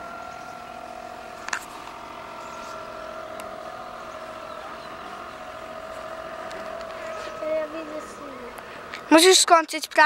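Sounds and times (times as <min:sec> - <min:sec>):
toy boat motor whine: 0:00.0 - 0:10.0.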